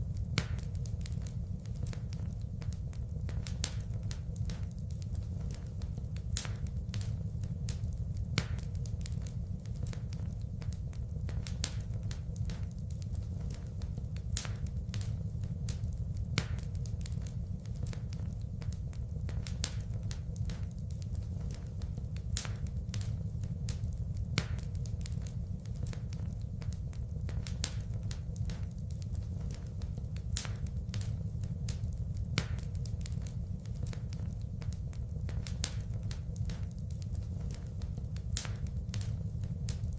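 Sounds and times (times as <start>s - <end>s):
low rumble of flames: 0.0s - 39.9s
sharp pops from fire: 0.0s - 39.9s
wood fire crackling: 0.0s - 39.9s.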